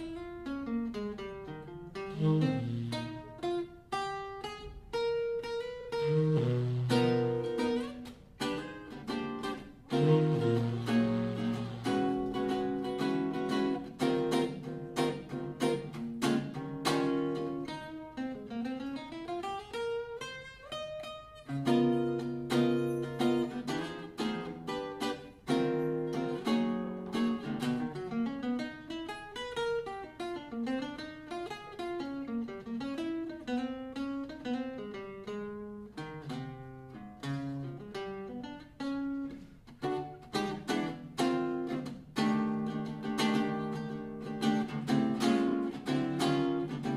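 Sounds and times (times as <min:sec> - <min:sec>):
acoustic jazz guitar solo: 0:00.0 - 0:46.9.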